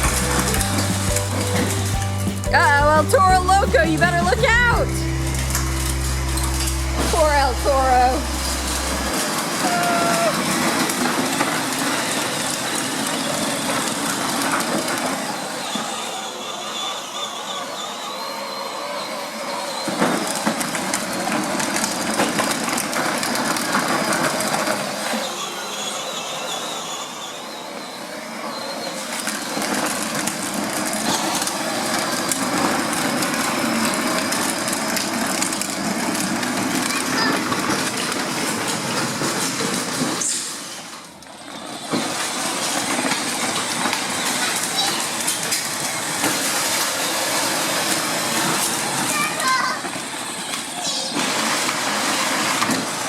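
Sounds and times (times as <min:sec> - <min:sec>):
wheels grinding on rough ground: 0:00.0 - 0:28.0, 0:28.6 - 0:53.0.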